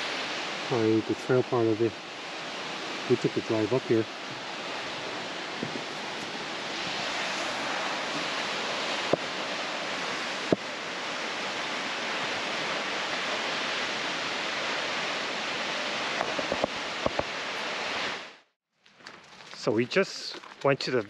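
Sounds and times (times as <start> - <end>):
waterfall rushing: 0.0 - 18.3.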